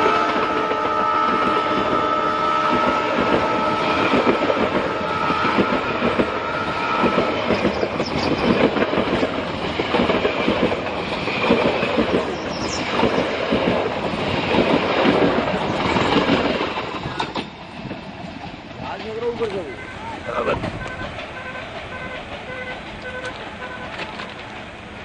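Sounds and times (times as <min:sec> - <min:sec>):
train wheels clattering over rail joints: 0:00.0 - 0:25.0.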